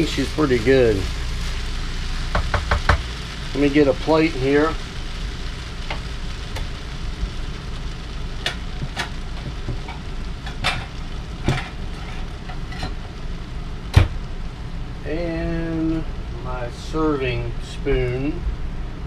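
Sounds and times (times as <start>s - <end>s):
fried rice sizzling in skillet: 0.0s - 19.0s.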